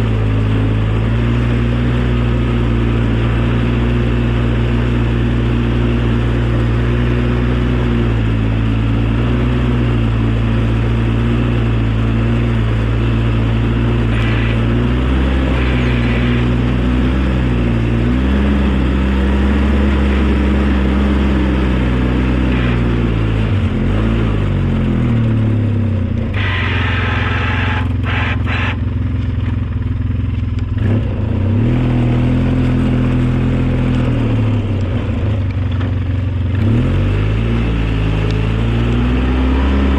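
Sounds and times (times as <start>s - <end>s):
snowplow engine running: 0.0s - 39.9s.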